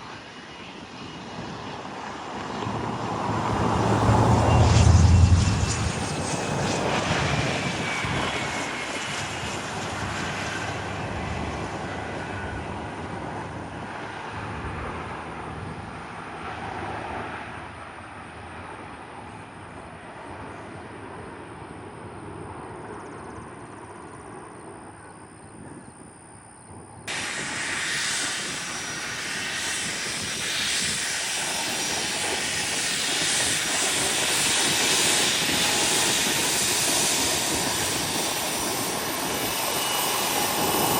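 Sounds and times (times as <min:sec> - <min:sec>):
jet engines passing: 0:00.0 - 0:25.8, 0:26.8 - 0:40.9
jet engine noise: 0:00.0 - 0:40.9.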